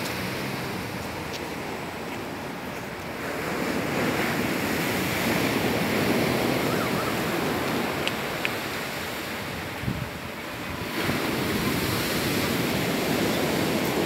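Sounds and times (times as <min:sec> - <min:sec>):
surf breaking on beach: 0:00.0 - 0:14.0.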